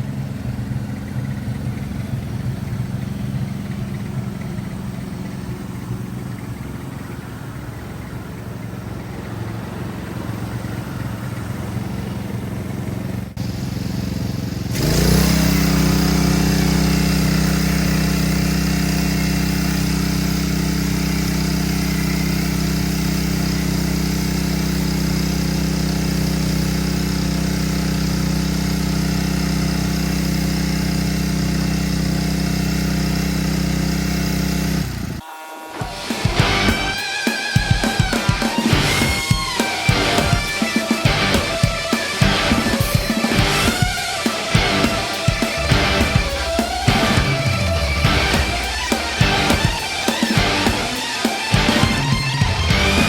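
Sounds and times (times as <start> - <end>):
car engine idling: 0.0 - 35.2, 36.0 - 53.0.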